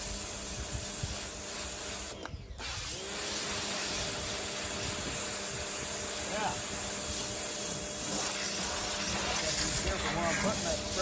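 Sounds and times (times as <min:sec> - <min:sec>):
pressure washer spray hiss: 0:00.0 - 0:11.0.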